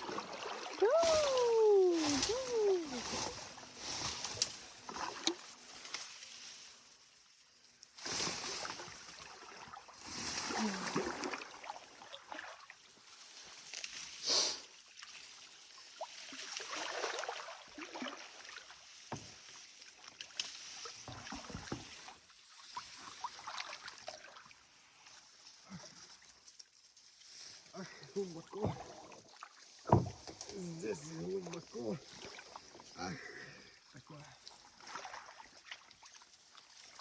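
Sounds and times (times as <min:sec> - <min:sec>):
paddle splashing through water: 0:00.0 - 0:06.4, 0:08.0 - 0:33.0, 0:33.6 - 0:37.0.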